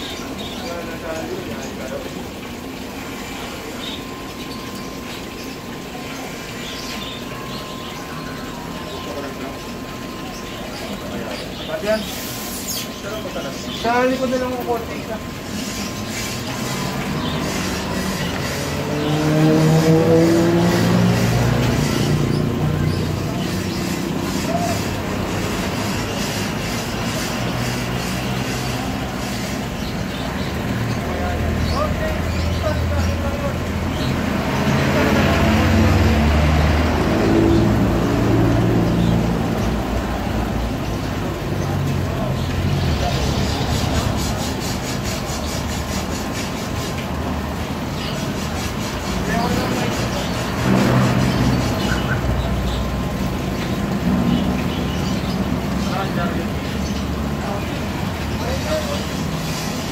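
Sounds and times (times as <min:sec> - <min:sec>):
aquarium filter bubbling: 0:00.0 - 0:59.9.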